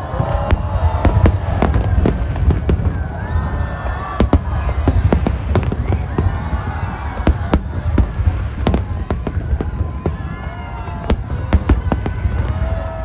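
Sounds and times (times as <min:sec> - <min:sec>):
low rumble of explosions: 0:00.0 - 0:13.0.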